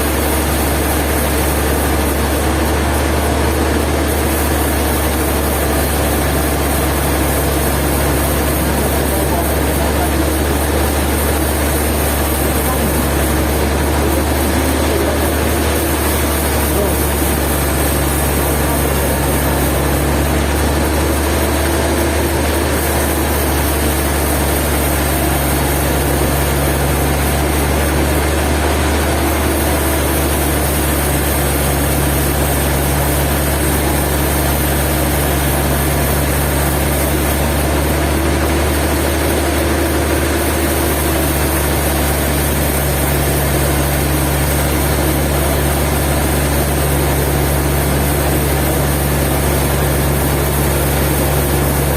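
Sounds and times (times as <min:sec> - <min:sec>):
sawmill machinery drone: 0:00.0 - 0:51.9.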